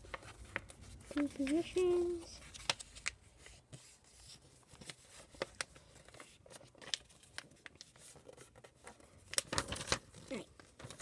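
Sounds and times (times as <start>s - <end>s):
paper being folded: 0.0s - 11.0s.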